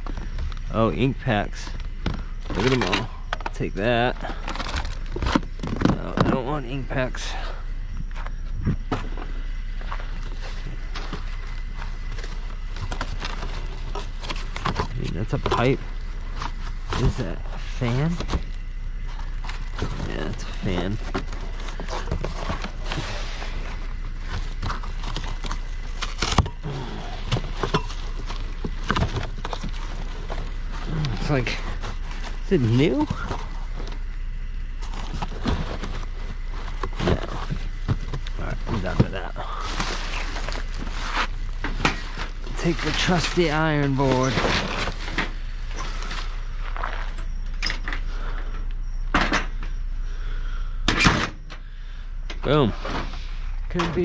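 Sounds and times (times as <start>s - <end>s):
steady low hum: 0.0s - 54.0s
junk clattering and knocking: 1.7s - 34.2s, 34.8s - 40.9s, 41.6s - 46.1s, 47.1s - 49.8s.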